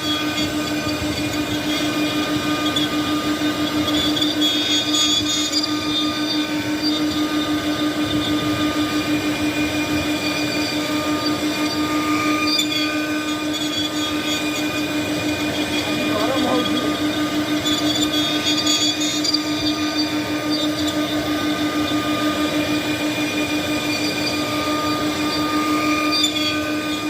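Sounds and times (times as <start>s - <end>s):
high steady whining tones: 0.0s - 27.0s
machine cutting noise: 0.0s - 27.0s
machine low hum: 0.0s - 27.0s.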